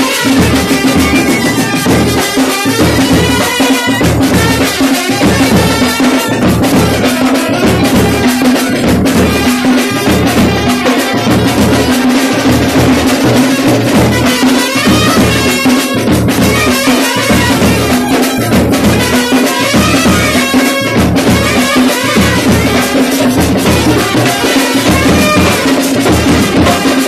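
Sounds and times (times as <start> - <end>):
drum and brass band playing: 0.0 - 27.0
large drums beating: 0.0 - 27.0.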